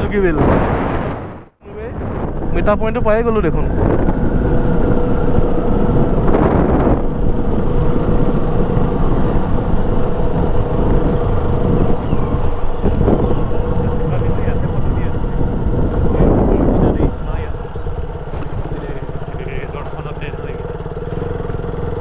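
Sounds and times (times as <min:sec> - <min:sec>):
wind rushing over microphone: 0:00.0 - 0:22.0
motorcycle engine running: 0:03.6 - 0:22.0.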